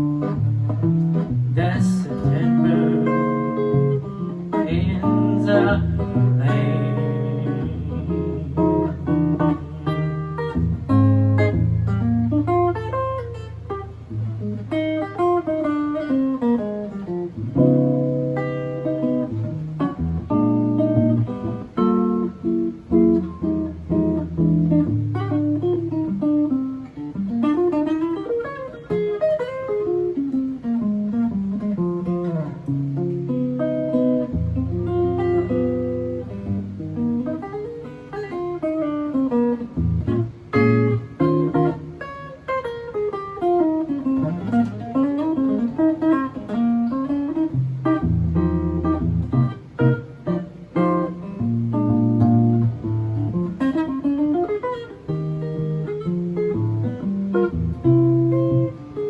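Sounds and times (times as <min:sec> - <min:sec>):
solo jazz guitar: 0:00.0 - 0:59.0.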